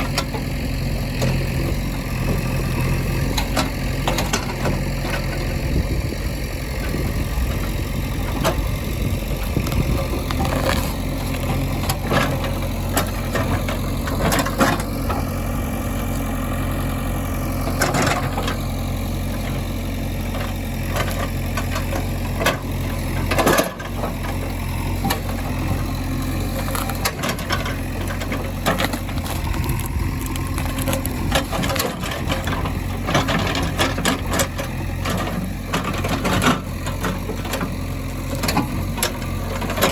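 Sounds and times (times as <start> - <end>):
diesel engines running: 0.0 - 39.9
machinery clanks and rattles: 0.0 - 39.9.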